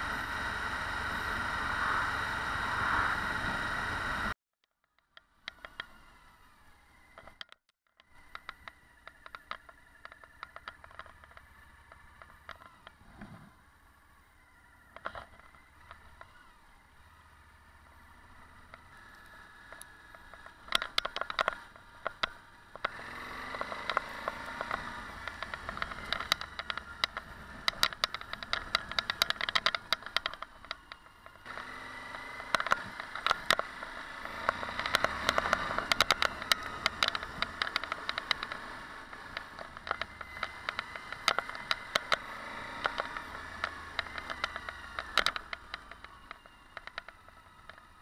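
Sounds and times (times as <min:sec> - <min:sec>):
motorcycle engine running: 0:00.0 - 0:04.4, 0:05.2 - 0:48.0
clicks and rattles from rough track: 0:07.1 - 0:13.6, 0:14.8 - 0:16.5, 0:17.6 - 0:48.0.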